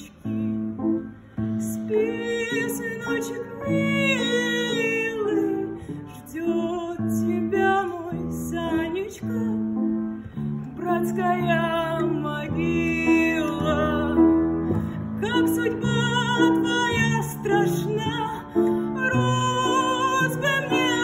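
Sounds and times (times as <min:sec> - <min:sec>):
woman singing slow song: 0:00.0 - 0:10.1, 0:10.7 - 0:21.0.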